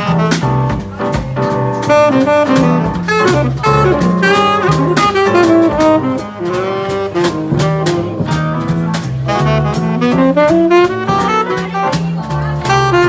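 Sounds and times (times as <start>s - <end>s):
horn melody: 0.0s - 0.8s, 1.8s - 13.0s
bass line: 0.0s - 13.0s
drums keeping time: 0.0s - 13.0s.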